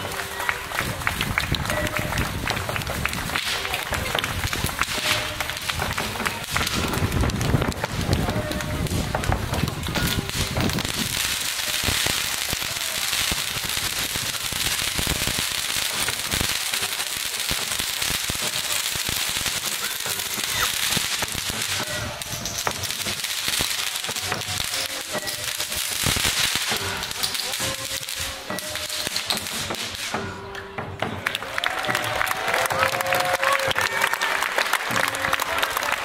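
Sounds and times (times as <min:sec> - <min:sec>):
spark fountain hissing and crackling: 0:00.0 - 0:30.2.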